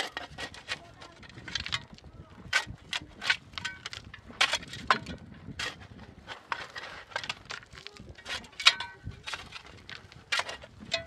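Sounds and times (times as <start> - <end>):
shovel chopping stony soil: 0.0 - 11.0.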